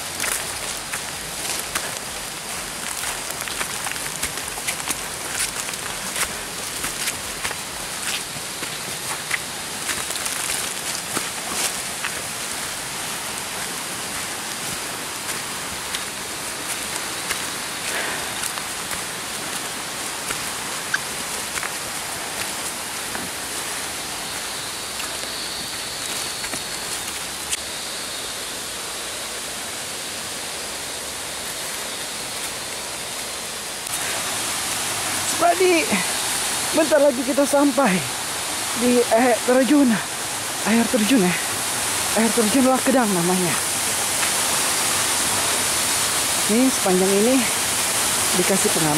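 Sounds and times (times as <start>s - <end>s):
footsteps on leafy trail: 0.0s - 27.9s, 30.8s - 48.9s
waterfall rushing hiss: 0.0s - 48.9s.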